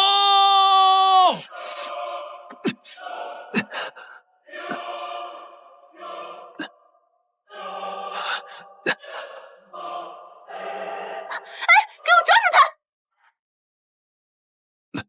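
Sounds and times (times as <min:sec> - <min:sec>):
dramatic choir-like music: 0:00.0 - 0:12.7.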